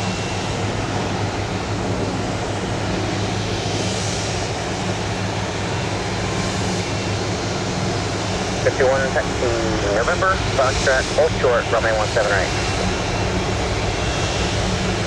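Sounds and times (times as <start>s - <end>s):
jet engine with low hum: 0.0s - 15.0s.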